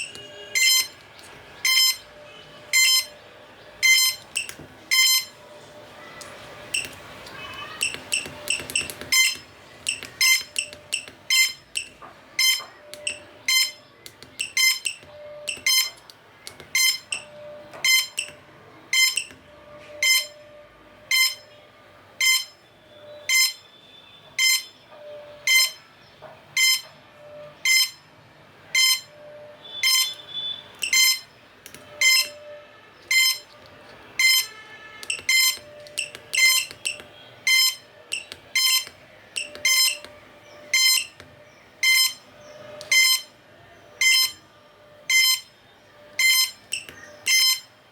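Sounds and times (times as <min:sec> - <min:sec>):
electronic buzzer beeping: 0:00.0 - 0:01.0, 0:01.6 - 0:03.2, 0:03.8 - 0:05.4, 0:07.7 - 0:16.0, 0:16.6 - 0:21.6, 0:22.2 - 0:25.9, 0:26.6 - 0:28.1, 0:28.7 - 0:41.2, 0:41.8 - 0:43.4, 0:44.0 - 0:44.4, 0:45.0 - 0:47.7.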